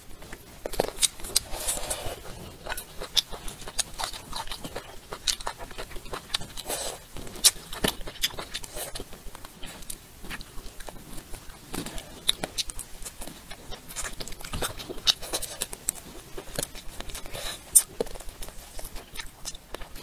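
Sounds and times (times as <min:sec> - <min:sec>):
person chewing and biting: 0:00.2 - 0:20.0.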